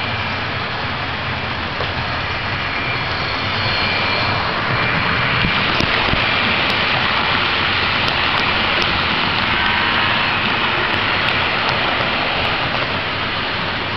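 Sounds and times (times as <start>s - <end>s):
faint high whine: 0.0s - 13.9s
model train whirring on track: 0.0s - 13.9s.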